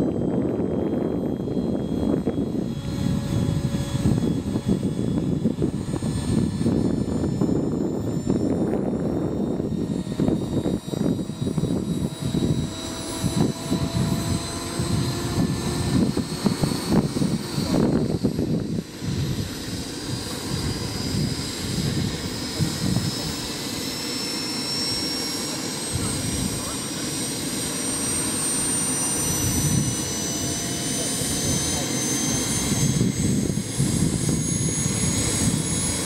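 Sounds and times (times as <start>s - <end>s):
turbine whine spooling up: 0.0s - 36.0s.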